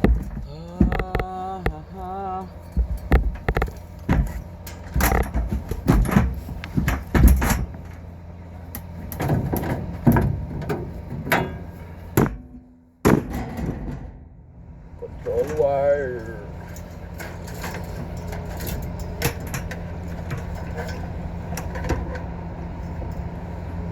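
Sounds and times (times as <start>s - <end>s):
knocks and clatter of tools: 0.0s - 1.9s, 2.6s - 8.1s, 8.7s - 14.2s, 16.6s - 23.3s
steady low hum: 0.0s - 23.9s.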